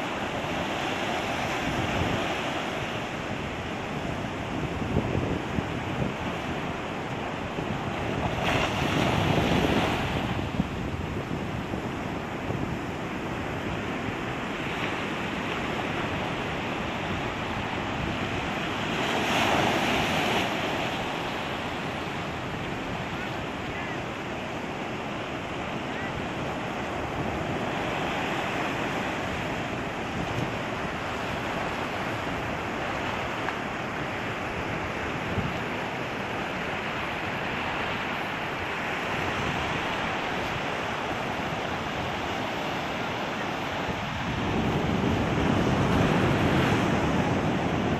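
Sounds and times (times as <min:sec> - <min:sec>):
wind buffeting microphone: 0:00.0 - 0:23.6, 0:25.5 - 0:47.9
surf washing over rocks: 0:00.0 - 0:47.9.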